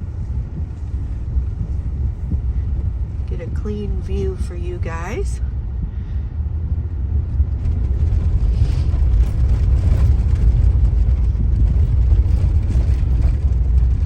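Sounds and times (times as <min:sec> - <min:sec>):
tyres rumbling on rough road: 0:00.0 - 0:14.0.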